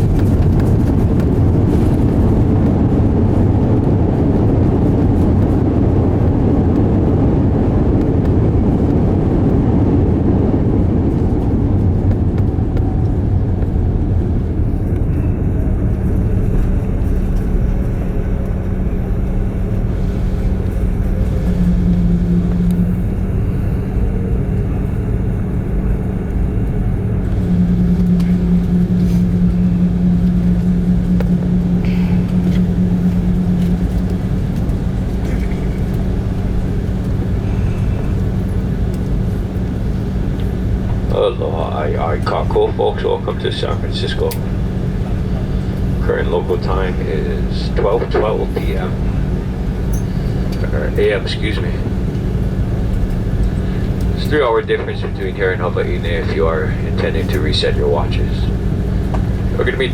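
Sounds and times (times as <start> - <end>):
droning hum: 0.0 - 59.9
low rumble of engines and wheels: 0.0 - 59.9.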